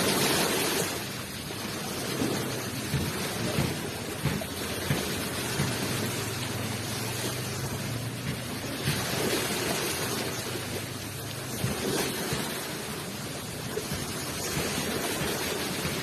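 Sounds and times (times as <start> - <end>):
low surf rumble: 0.0 - 16.0
ocean surf breaking on shore: 0.0 - 16.0.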